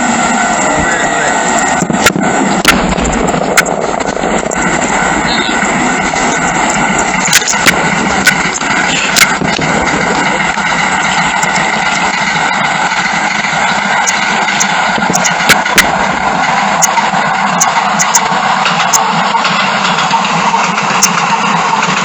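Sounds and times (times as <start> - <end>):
rumble of firework bursts: 0.0 - 22.0.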